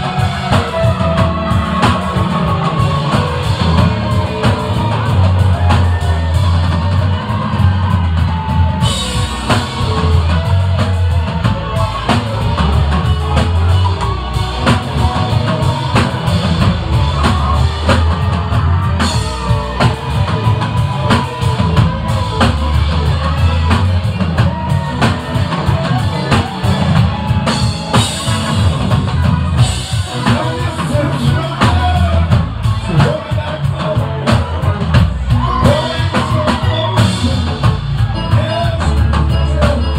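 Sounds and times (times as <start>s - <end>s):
rock band playing loudly: 0.0s - 39.9s.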